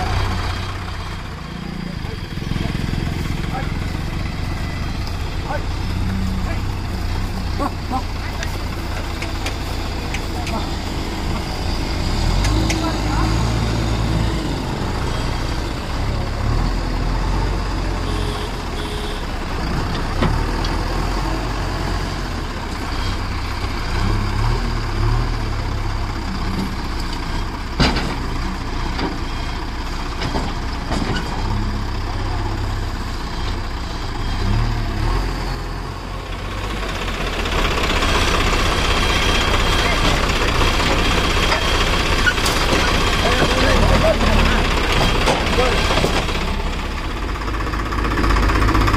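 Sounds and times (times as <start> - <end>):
diesel engine under hydraulic load: 0.0 - 48.9.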